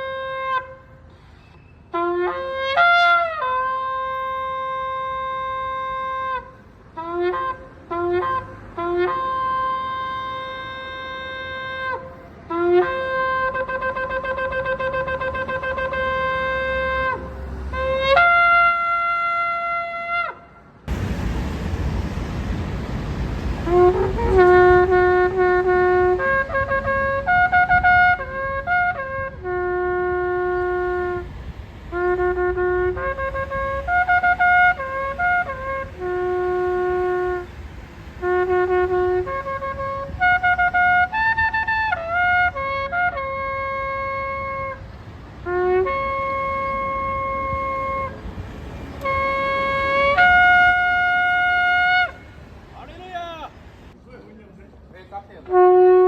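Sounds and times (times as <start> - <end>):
ram's horn trumpet blasts: 1.8 - 21.2, 23.4 - 53.6, 55.4 - 56.0.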